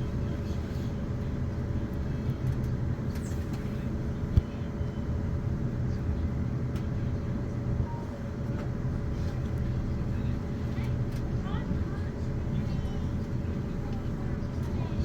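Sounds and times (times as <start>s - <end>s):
train running on the line: 0.0s - 15.0s.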